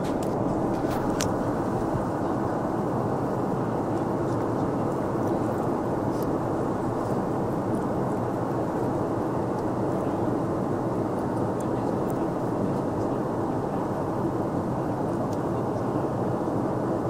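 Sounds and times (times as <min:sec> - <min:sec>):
airflow rush: 0:00.0 - 0:17.0
airplane cabin noise: 0:00.0 - 0:17.0.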